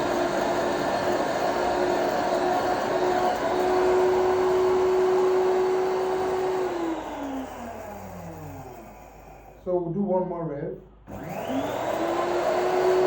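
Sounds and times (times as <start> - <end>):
motor spinning down: 0.0 - 9.6, 11.1 - 13.0
grinder whining: 0.0 - 9.7, 11.1 - 13.0.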